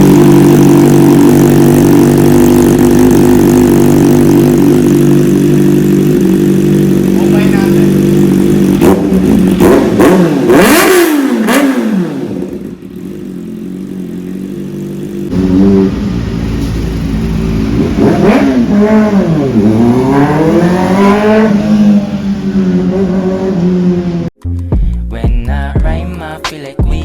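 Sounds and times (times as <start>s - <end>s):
motorcycle engine revving: 0.0s - 24.4s.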